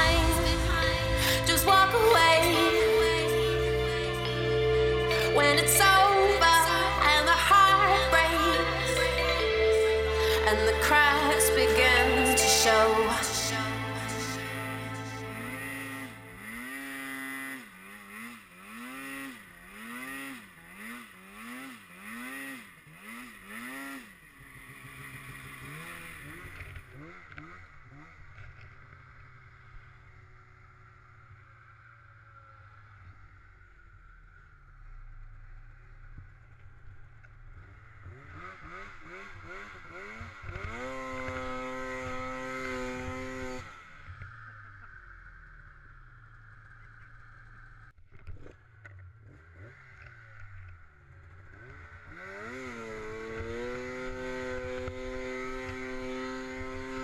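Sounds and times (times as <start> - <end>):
snowmobile engine revving: 0.0 - 33.4, 37.6 - 45.8, 49.2 - 57.0.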